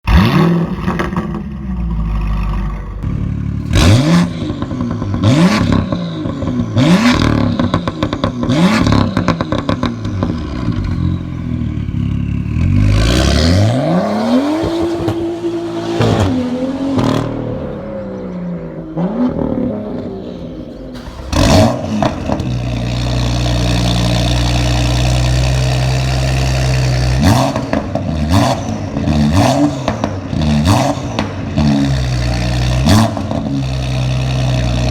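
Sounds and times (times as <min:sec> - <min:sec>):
car engine revving: 0:00.0 - 0:34.9
exhaust crack: 0:00.0 - 0:34.9.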